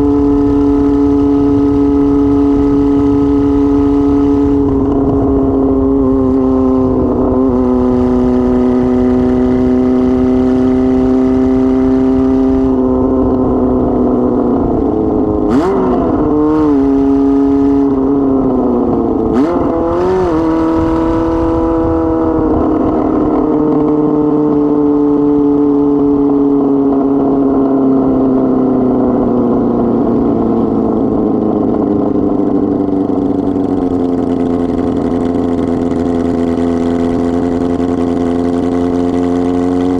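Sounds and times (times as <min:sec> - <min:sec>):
unmuffled motorcycle engine running: 0:00.0 - 0:39.9.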